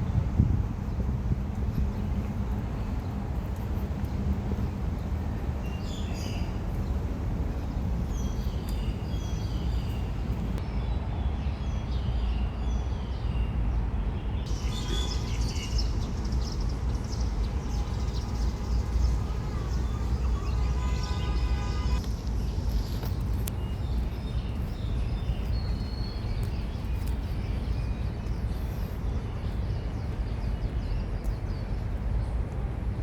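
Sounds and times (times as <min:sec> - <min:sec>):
small birds chirping: 0:00.9 - 0:32.5.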